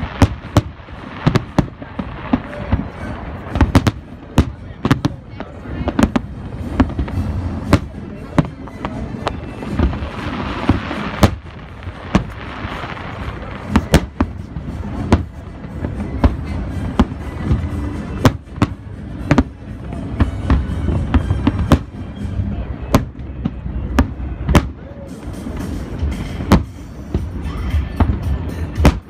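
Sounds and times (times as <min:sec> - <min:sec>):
fireworks booms: 0:00.0 - 0:29.0
fireworks crackling: 0:00.0 - 0:29.0.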